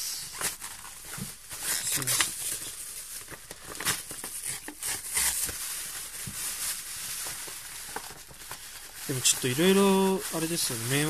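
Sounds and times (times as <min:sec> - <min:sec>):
paper envelope crinkling and tearing: 0:00.4 - 0:11.0.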